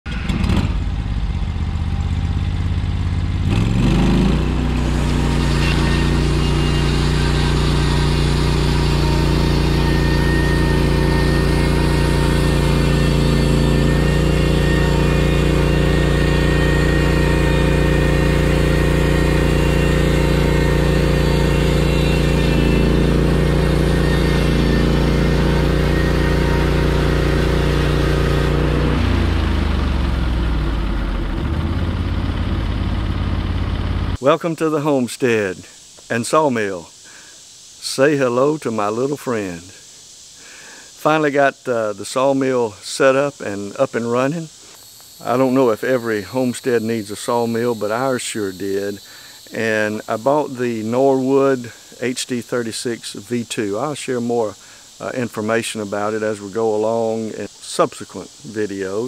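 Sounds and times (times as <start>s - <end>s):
sawmill engine running: 0.1s - 35.2s, 40.4s - 59.0s.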